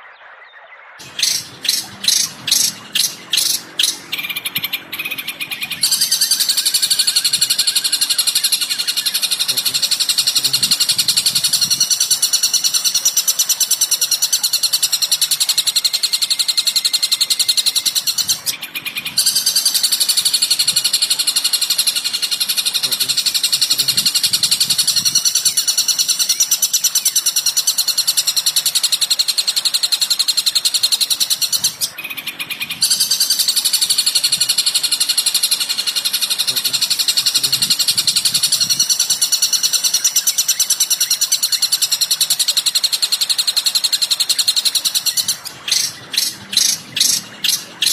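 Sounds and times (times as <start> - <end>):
rapid high songbird chatter: 0.6 - 47.9.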